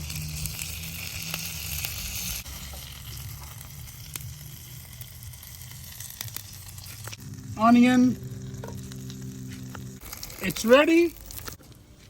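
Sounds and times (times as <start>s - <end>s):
patties sizzling in a frying pan: 0.0s - 11.6s.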